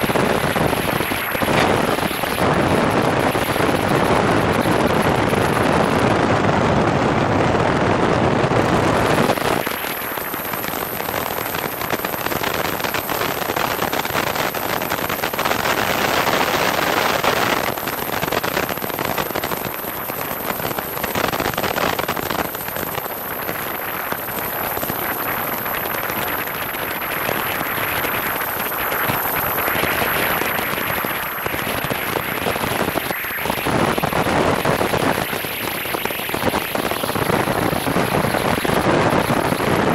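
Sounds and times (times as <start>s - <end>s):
airplane engine: 0.0s - 39.9s
wind rushing over camera: 0.0s - 39.9s.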